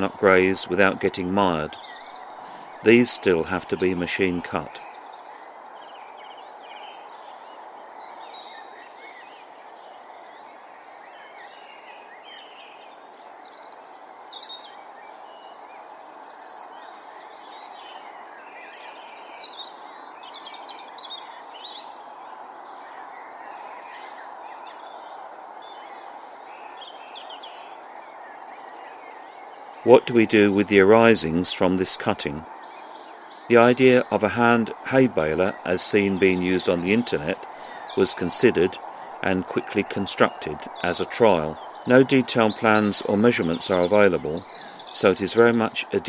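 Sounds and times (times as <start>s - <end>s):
small birds chirping and trilling: 0.0s - 46.0s
steady background hiss: 0.0s - 46.0s.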